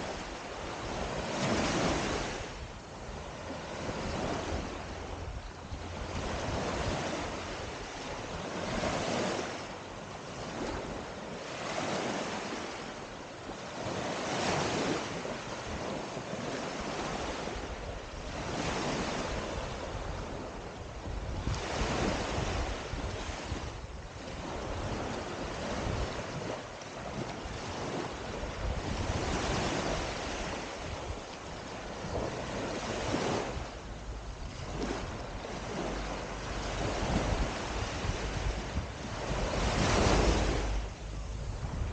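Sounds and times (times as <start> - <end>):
small waves breaking on sand: 0.0 - 41.9
wind buffeting microphone: 0.0 - 41.9.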